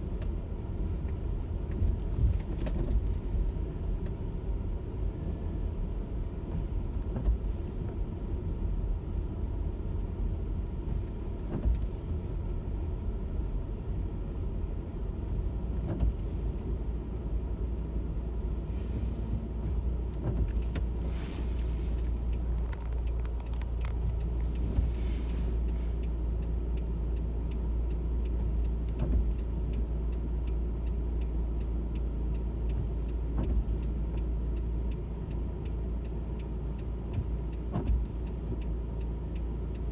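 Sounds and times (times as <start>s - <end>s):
car driving rumble from inside: 0.0s - 39.9s.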